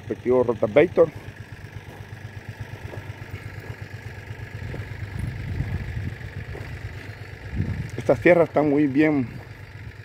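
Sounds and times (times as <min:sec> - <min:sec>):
tractor diesel engine throbbing: 0:00.0 - 0:10.0.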